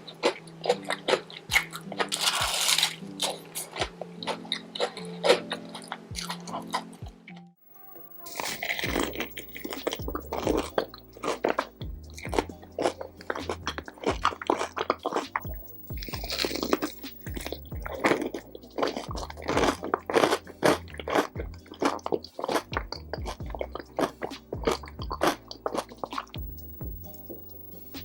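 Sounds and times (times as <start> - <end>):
chewing crispy food: 0.0 - 28.0
soft background music: 0.0 - 28.0.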